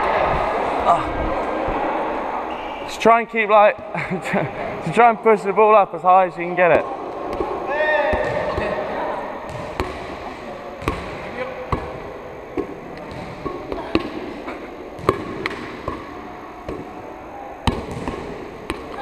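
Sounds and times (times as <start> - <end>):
low murmuring voices: 0.0 - 2.9, 3.8 - 19.0.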